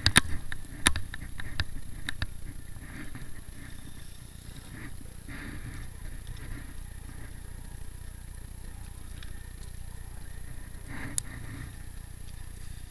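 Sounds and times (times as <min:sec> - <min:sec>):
skis scraping over snow: 0:00.0 - 0:12.9
wind buffeting microphone: 0:00.0 - 0:12.9.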